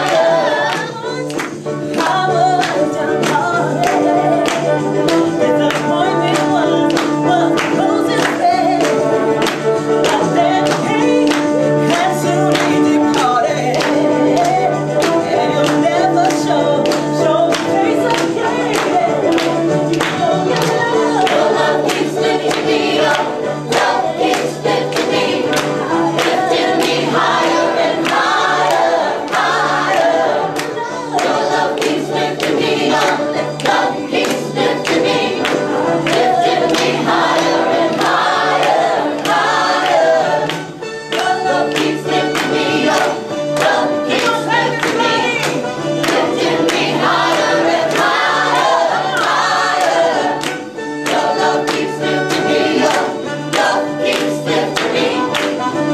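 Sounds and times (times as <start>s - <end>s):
group of people singing: 0.0s - 55.9s
hand claps: 0.0s - 55.9s.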